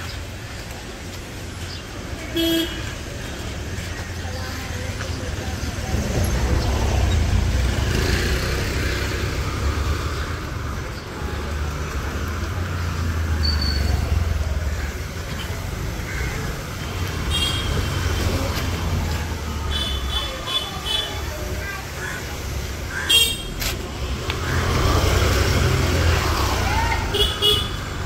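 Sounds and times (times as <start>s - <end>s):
low traffic rumble: 0.0s - 28.0s
motorbikes passing: 0.0s - 28.0s.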